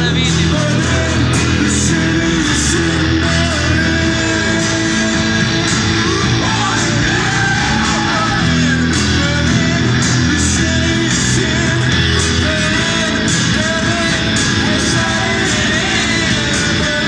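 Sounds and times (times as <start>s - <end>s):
pop band playing live: 0.0s - 17.0s.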